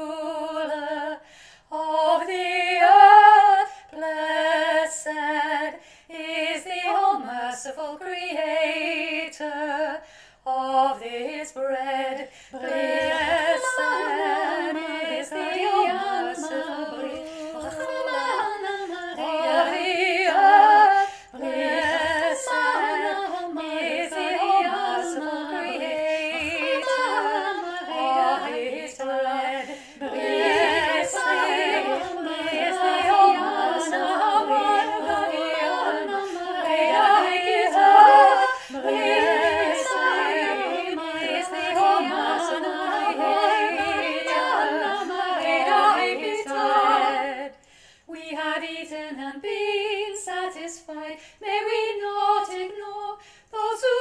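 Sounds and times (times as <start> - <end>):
woman singing in harmony: 0.0 - 54.0.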